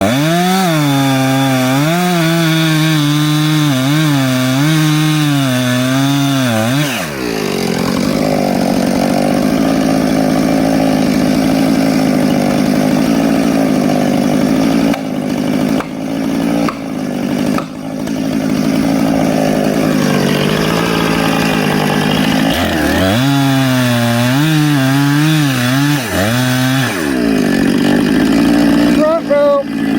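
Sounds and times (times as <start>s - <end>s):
chainsaw cutting log: 0.0s - 29.9s.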